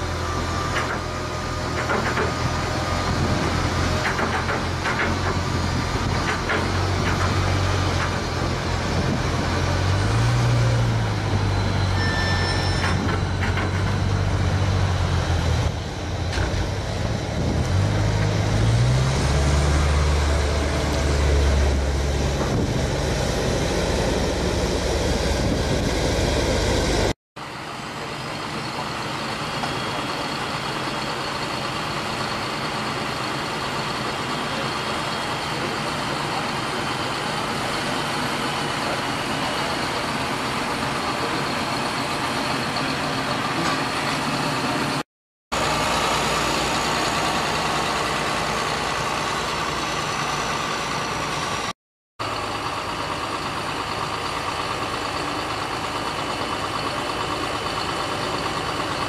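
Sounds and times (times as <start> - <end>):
tractor engine running steadily: 0.0 - 45.0, 45.6 - 59.0
tractor diesel engines under load: 0.0 - 59.0.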